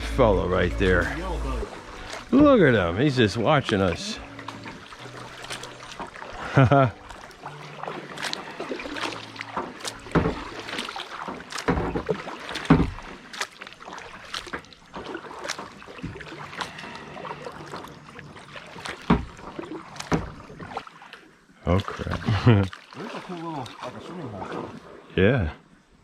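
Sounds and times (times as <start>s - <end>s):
paddle splashes and knocks: 0.0s - 25.1s.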